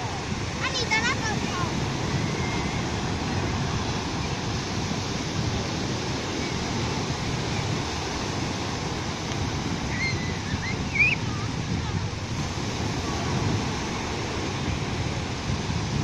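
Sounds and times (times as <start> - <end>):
sea surf breaking on beach: 0.0 - 16.0.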